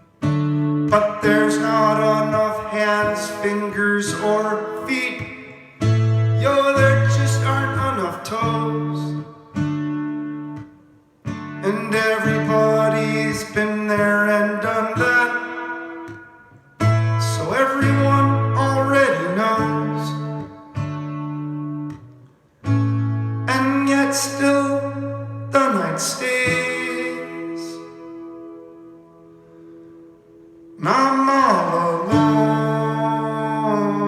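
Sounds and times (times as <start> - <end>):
acoustic guitar strummed chords: 0.0 - 34.0.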